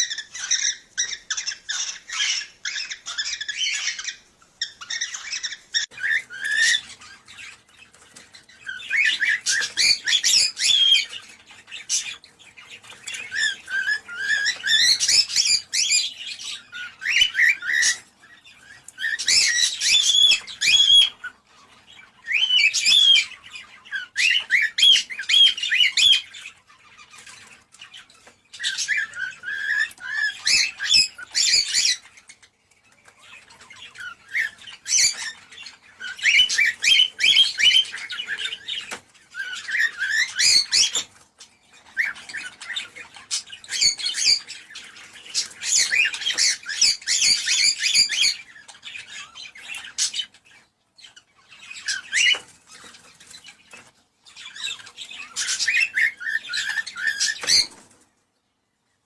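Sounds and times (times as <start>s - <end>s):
cockatiels chirping and warbling: 0.0s - 59.0s.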